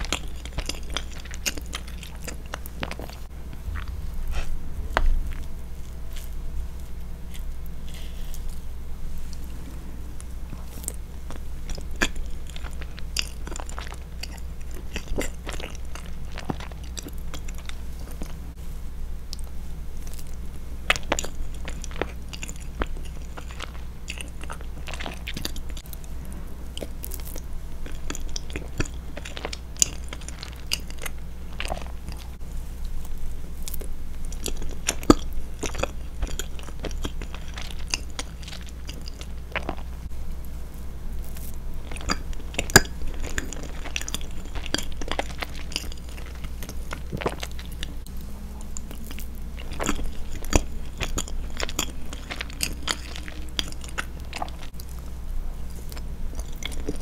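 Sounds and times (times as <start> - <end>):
close chewing of cake: 0.0 - 57.0.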